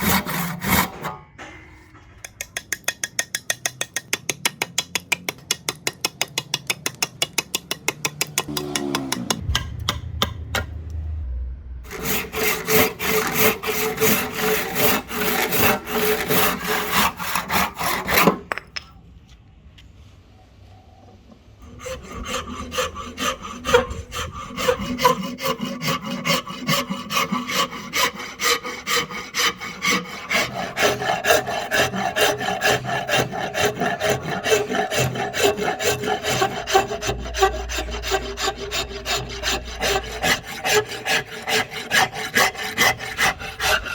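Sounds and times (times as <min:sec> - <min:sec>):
hand tool cutting wood strokes: 0:00.0 - 0:01.1, 0:04.0 - 0:09.6, 0:11.9 - 0:18.4, 0:21.7 - 0:43.9.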